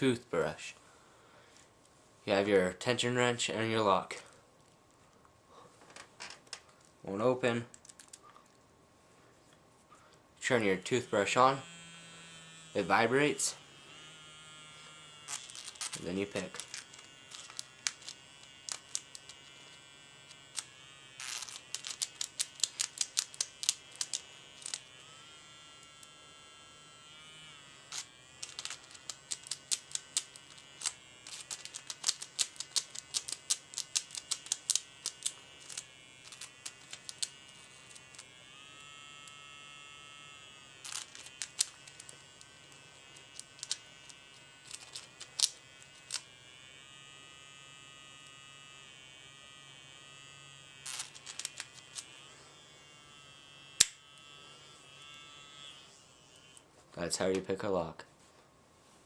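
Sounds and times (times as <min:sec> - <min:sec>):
electric toothbrush buzzing: 0:10.4 - 0:57.7.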